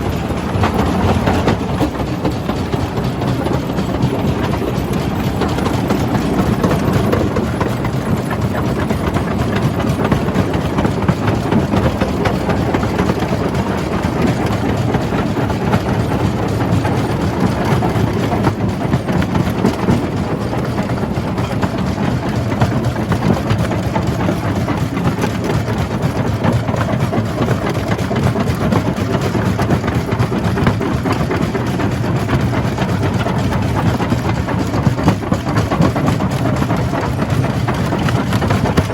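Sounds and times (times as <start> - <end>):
rock crusher rumbling and clattering: 0.0 - 38.9.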